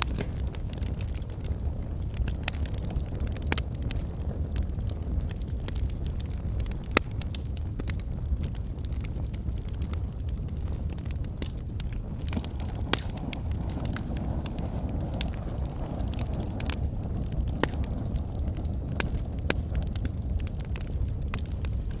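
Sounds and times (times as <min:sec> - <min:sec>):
fire flames rumbling: 0:00.0 - 0:22.0
logs crackling and popping: 0:00.0 - 0:22.0.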